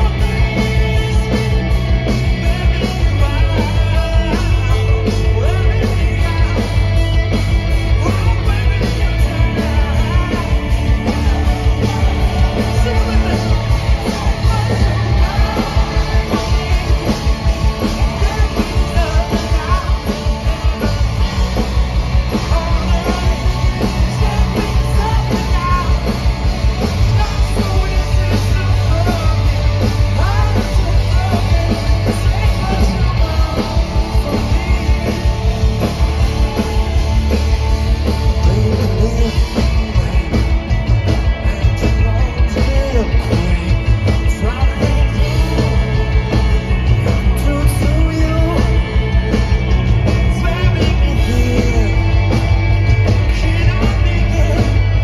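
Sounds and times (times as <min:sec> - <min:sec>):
lead singer vocals: 0:00.0 - 0:26.3, 0:26.9 - 0:36.9, 0:38.2 - 0:40.6, 0:41.3 - 0:55.0
live rock band playing: 0:00.0 - 0:55.0.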